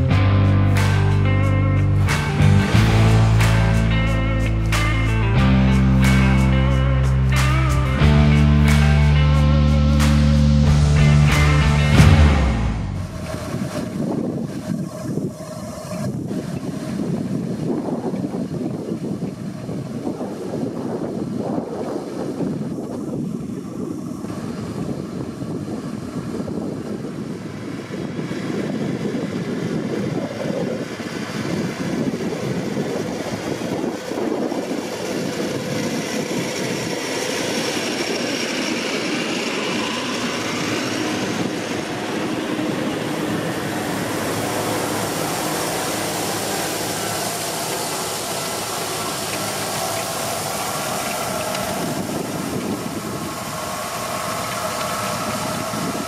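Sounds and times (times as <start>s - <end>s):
farm machinery working soil: 0.0s - 56.0s
tractor diesel engine under load: 0.0s - 56.0s.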